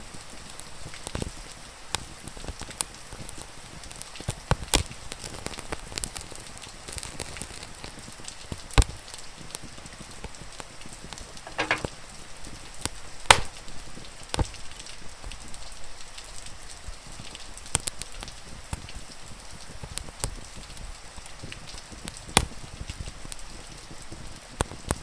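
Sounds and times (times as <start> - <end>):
wood fire crackling and popping: 1.9 - 15.6, 17.1 - 25.0.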